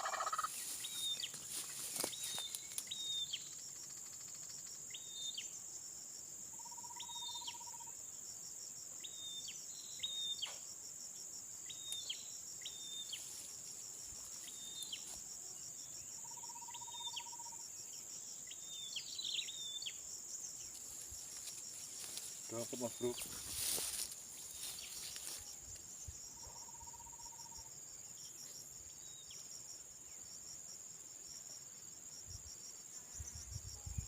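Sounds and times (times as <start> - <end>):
insect chorus: 0.0 - 34.0.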